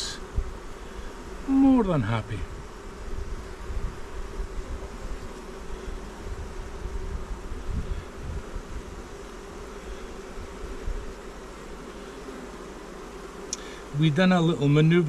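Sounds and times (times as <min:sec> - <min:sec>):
honeybees humming: 0:00.0 - 0:15.0.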